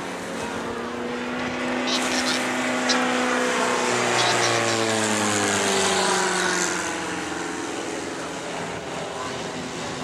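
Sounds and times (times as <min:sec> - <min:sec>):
propeller plane engine passing: 0:00.0 - 0:10.0.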